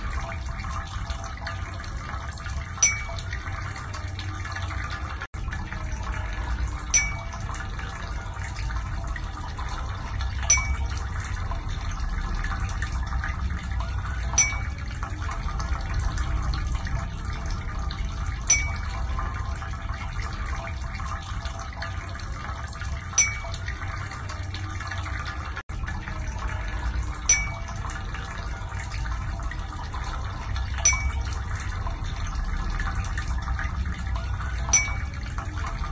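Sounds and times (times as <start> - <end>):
running water: 0.0 - 35.9.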